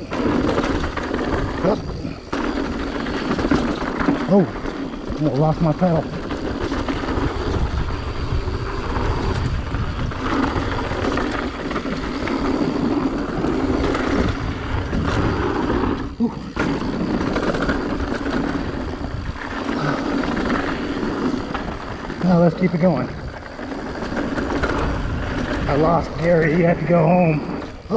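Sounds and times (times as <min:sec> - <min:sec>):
bike rattling: 0:00.0 - 0:27.9
bike tyres rumbling on dirt: 0:00.0 - 0:27.9
wind buffeting microphone: 0:00.0 - 0:27.9.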